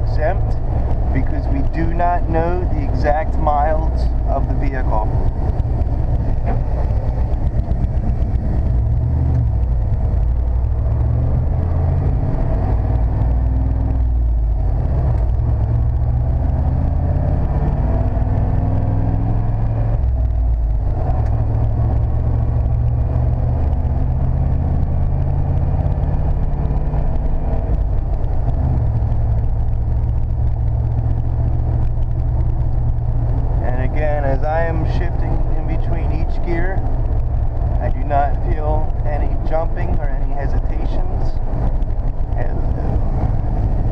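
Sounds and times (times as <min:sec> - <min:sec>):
engine and road rumble in cab: 0:00.0 - 0:43.9.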